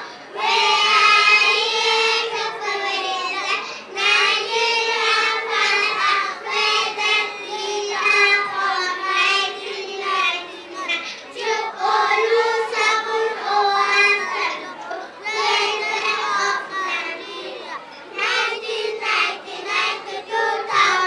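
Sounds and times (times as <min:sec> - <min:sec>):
children singing in unison: 0:00.0 - 0:21.0.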